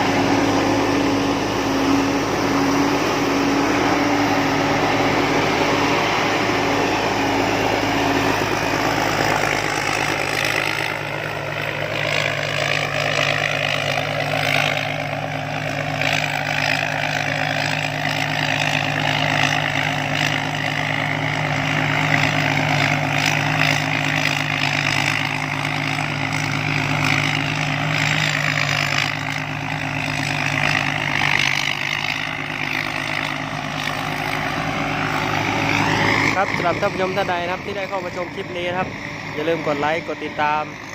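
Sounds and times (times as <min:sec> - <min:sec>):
combine harvester engine running: 0:00.0 - 0:40.9
rising machine whine: 0:00.0 - 0:40.9.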